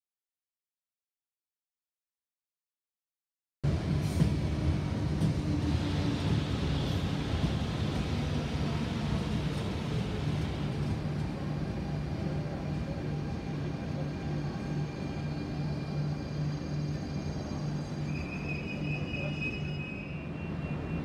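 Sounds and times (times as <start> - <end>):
electric train rumble: 3.6 - 21.0.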